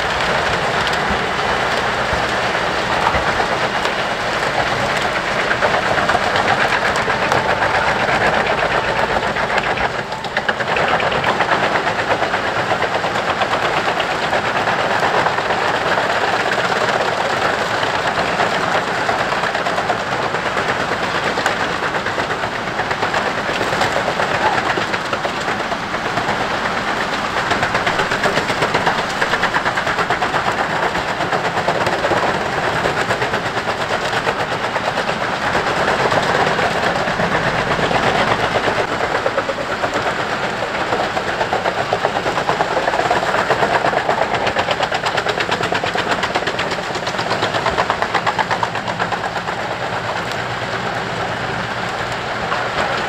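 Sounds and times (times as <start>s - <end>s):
heavy engine: 0.0s - 53.0s
wood chipper rattling and crackling: 0.0s - 53.0s.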